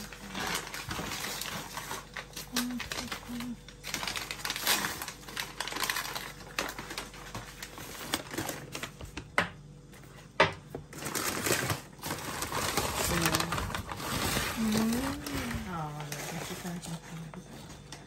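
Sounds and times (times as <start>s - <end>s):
paper bags rustling: 0.0s - 9.3s, 10.0s - 18.0s.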